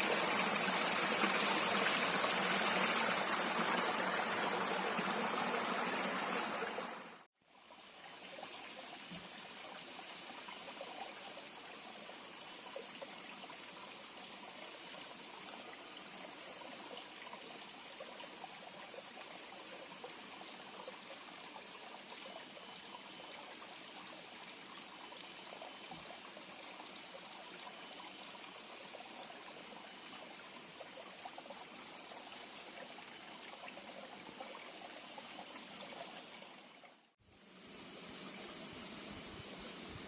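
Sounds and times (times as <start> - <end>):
stream trickling: 0.0 - 40.0.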